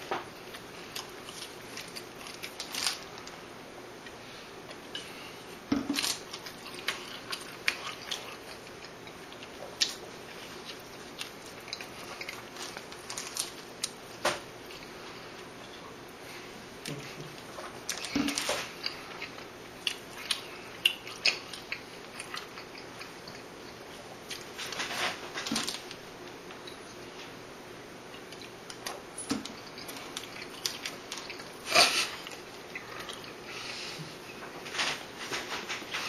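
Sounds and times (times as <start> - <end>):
biting and chewing food: 0.0 - 16.0, 16.8 - 27.2, 28.1 - 33.8.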